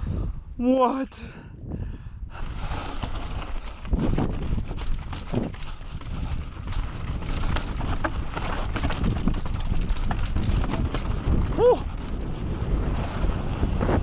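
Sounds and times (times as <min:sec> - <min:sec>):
bike rattling and clattering: 0:02.3 - 0:14.0.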